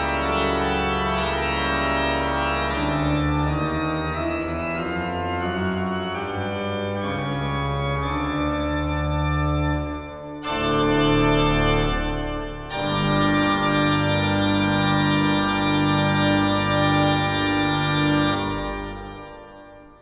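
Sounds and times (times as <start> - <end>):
organ-like chords: 0.0 - 20.0.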